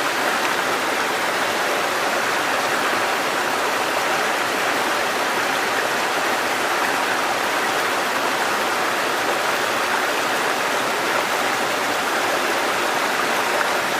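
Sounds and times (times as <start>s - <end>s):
river water rushing over rapids: 0.0s - 13.9s.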